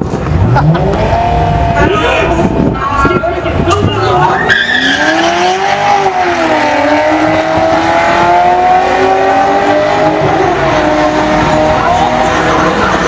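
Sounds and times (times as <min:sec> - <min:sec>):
race car engines accelerating: 0:00.0 - 0:13.0.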